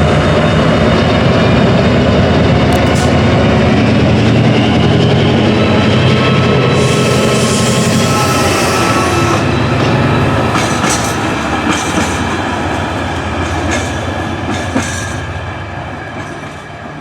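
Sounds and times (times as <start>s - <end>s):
locomotive engine drone: 0.0s - 17.0s.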